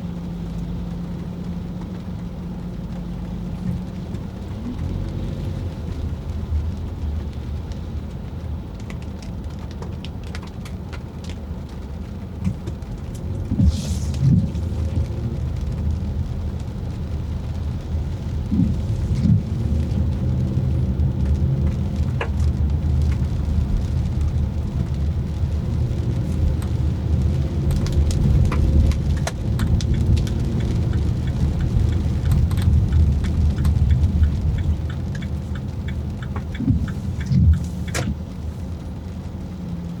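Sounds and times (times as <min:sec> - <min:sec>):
raindrops ticking on car: 0:00.0 - 0:40.0
tyres and engine rumbling: 0:00.0 - 0:40.0.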